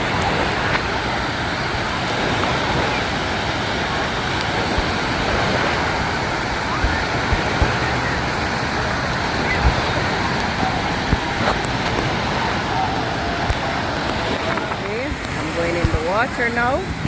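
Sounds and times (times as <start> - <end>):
distant crowd voices: 0.0 - 17.0
waves washing in pool: 0.0 - 17.0.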